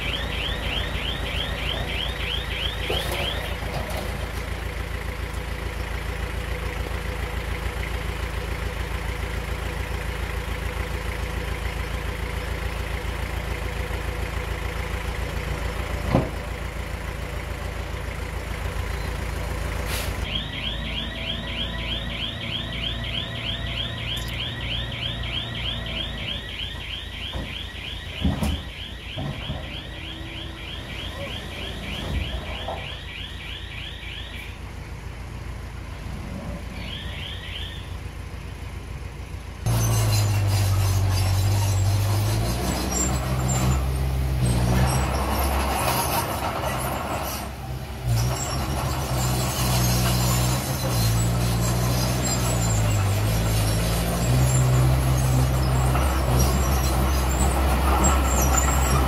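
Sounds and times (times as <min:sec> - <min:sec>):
diesel engine rumbling: 0:00.0 - 0:59.0.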